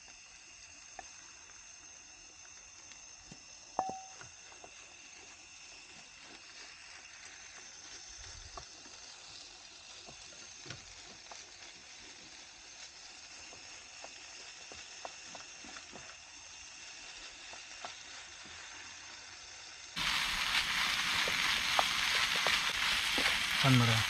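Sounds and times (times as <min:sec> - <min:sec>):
noodles sizzling in a pan: 0:00.0 - 0:24.0.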